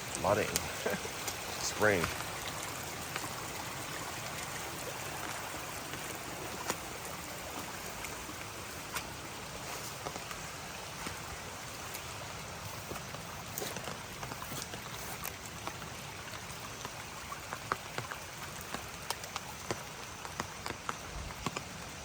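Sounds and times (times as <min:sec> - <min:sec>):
water rushing and bubbling: 0:00.0 - 0:22.0.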